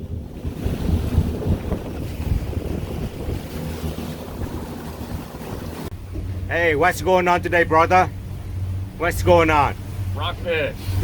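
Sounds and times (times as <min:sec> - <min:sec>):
boat engine humming: 0:00.0 - 0:11.0
wind buffeting microphone: 0:00.0 - 0:11.0.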